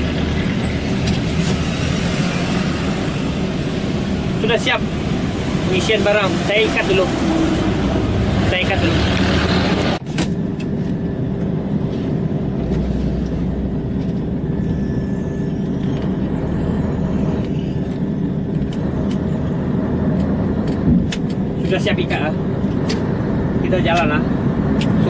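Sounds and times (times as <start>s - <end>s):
road noise: 0.0s - 25.0s
truck diesel engine running: 0.0s - 25.0s.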